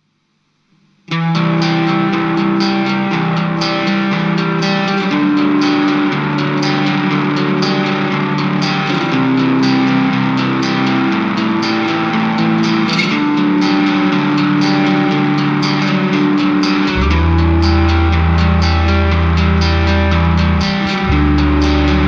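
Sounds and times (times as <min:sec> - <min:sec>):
guitar-led background music: 0:01.1 - 0:22.0.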